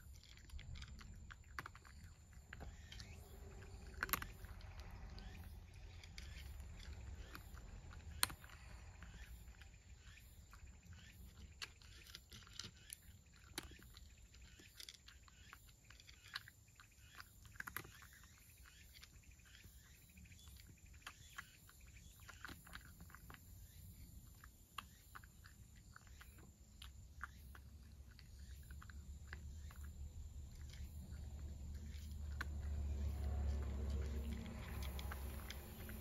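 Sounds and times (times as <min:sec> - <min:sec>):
cat chewing food: 0:00.0 - 0:36.0.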